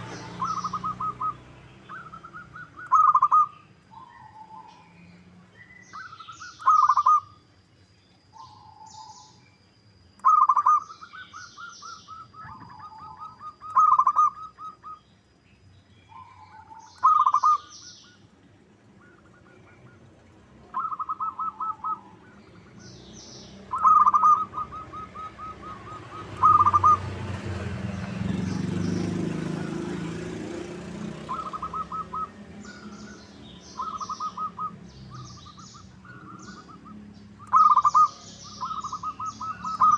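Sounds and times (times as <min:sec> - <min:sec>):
dove cooing: 0:00.0 - 0:04.9, 0:05.9 - 0:07.4, 0:10.2 - 0:15.0, 0:16.1 - 0:18.2, 0:19.0 - 0:22.5, 0:23.6 - 0:39.9
small birds chirping: 0:00.0 - 0:39.9.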